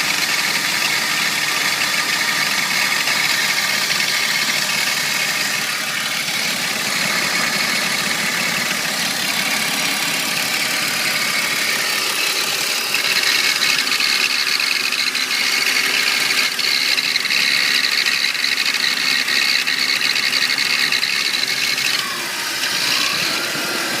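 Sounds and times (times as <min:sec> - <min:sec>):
car engine idling: 0:00.0 - 0:24.0
engine rattling: 0:00.0 - 0:24.0.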